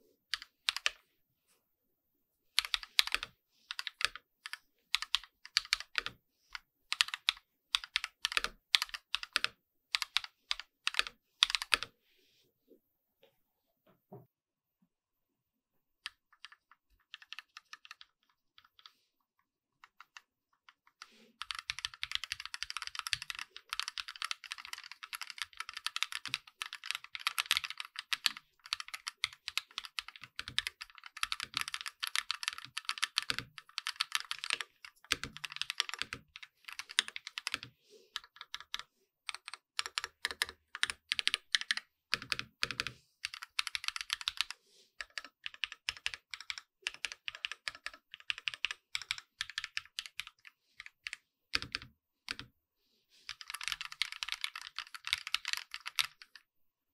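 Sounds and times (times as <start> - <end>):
typing on mechanical keyboard: 0.3 - 1.0, 2.6 - 6.2, 6.9 - 11.9, 16.0 - 19.0, 19.8 - 52.5, 53.3 - 56.5.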